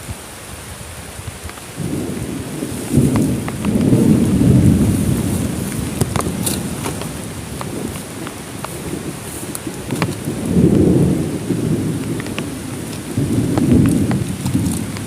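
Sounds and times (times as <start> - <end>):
heavy rain: 0.0 - 15.0
raindrops ticking: 0.0 - 15.0
thunder rumbling: 1.3 - 15.0.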